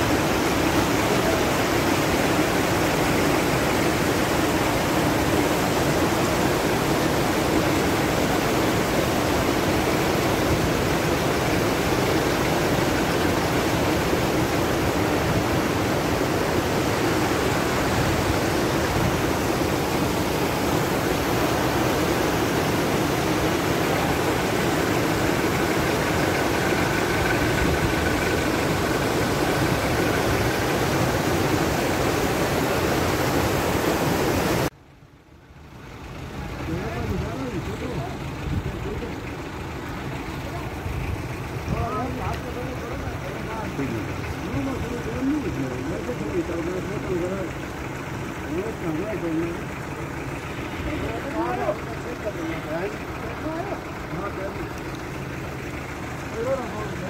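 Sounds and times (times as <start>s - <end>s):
stream rushing over boulders: 0.0s - 34.8s, 36.2s - 57.0s.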